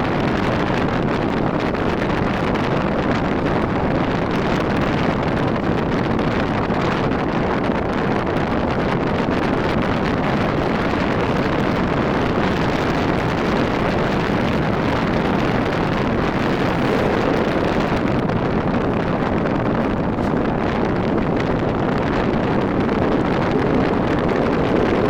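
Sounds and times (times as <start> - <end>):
motorcycle engine and road noise: 0.0 - 25.0
wind rushing on microphone: 0.0 - 25.0.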